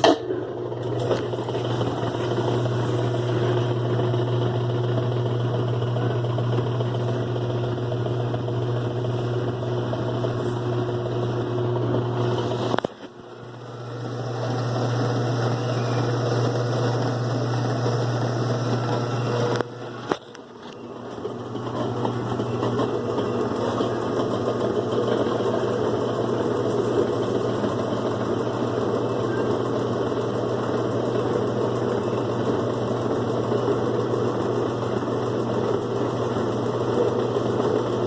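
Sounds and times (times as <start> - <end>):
washing machine spinning hum: 0.0 - 38.0.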